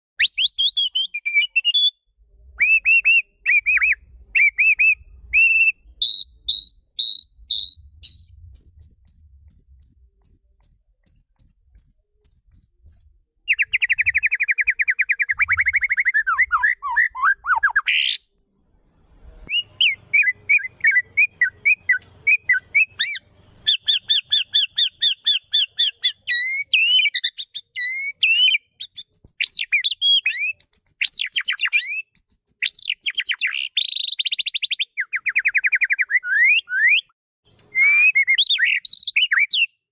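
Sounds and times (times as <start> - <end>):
shama whistled song: 0.2 - 10.0, 12.3 - 39.8.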